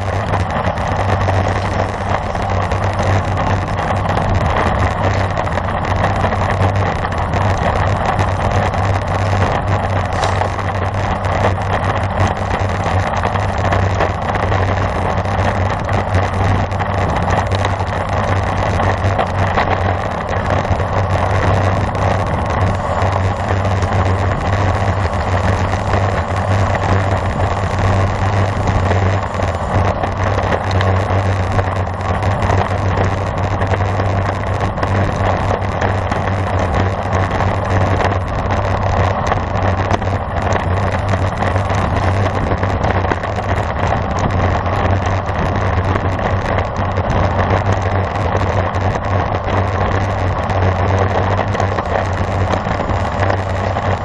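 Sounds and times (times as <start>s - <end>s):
bicycle road noise: 0.0s - 54.0s
constant low hum: 0.0s - 54.0s
wind on microphone: 0.0s - 54.0s.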